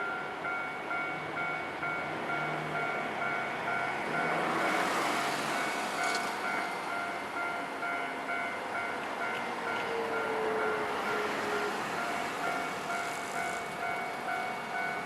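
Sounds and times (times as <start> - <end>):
level crossing warning bell: 0.0 - 15.0
tram wheel and rail noise: 0.0 - 15.0.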